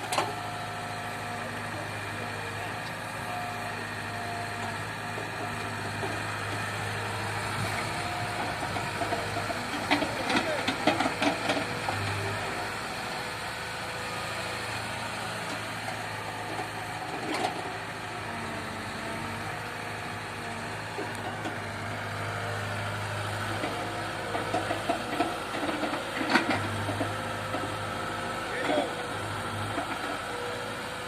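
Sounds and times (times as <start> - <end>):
diesel engine idling: 0.3 - 31.0.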